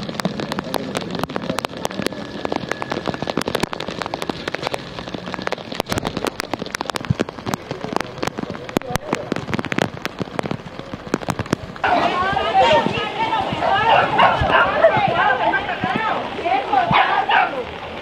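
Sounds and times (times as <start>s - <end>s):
rain falling: 0.0s - 18.0s
raindrops hitting close by: 0.0s - 18.0s.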